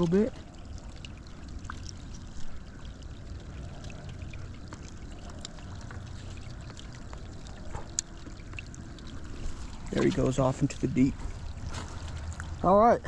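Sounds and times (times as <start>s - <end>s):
small splashes: 0.0s - 13.0s
water sloshing and trickling: 0.0s - 13.0s.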